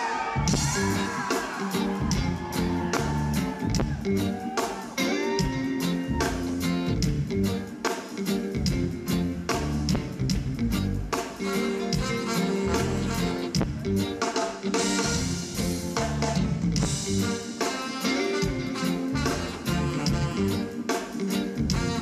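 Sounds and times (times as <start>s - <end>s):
upbeat pop music with guitar: 0.0s - 22.0s.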